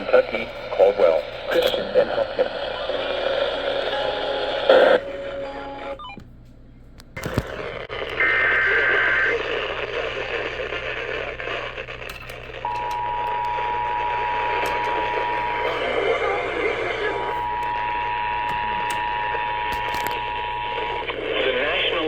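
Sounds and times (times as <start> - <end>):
radio hiss: 0.0 - 6.0, 7.2 - 22.0.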